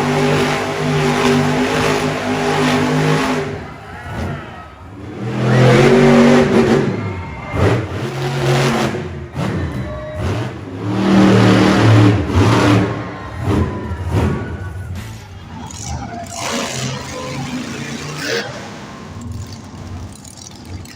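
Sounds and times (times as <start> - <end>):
monster truck engine revving: 0.0 - 20.9.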